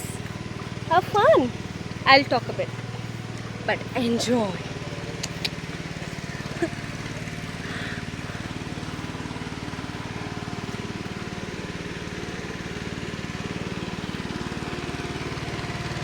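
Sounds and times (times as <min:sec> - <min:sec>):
small vehicle engine running: 0:00.0 - 0:16.0.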